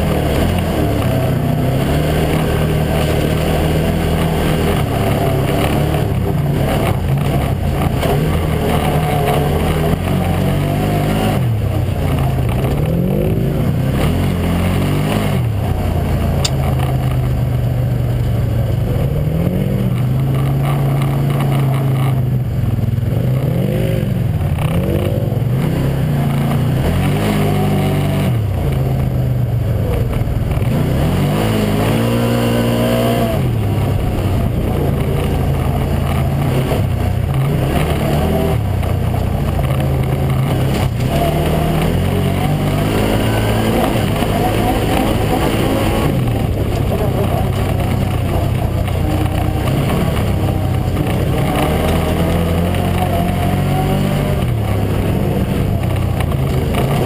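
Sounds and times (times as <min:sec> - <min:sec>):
engine revving: 0:00.0 - 0:57.0
tires on gravel: 0:00.0 - 0:57.0.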